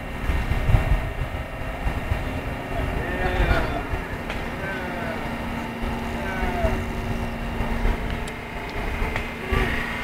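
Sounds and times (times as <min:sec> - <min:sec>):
low rumbling: 0:00.0 - 0:10.0
steady low hum: 0:00.0 - 0:10.0.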